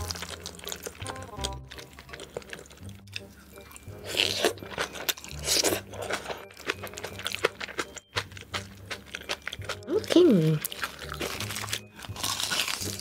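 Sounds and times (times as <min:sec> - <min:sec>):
close-miked chewing and biting: 0:00.0 - 0:13.0.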